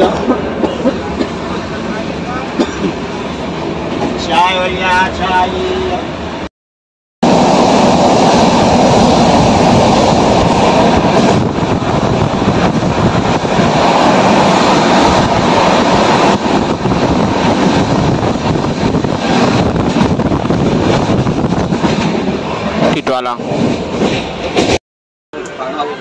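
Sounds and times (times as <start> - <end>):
train coach running noise: 0.0 - 6.5, 7.2 - 24.8.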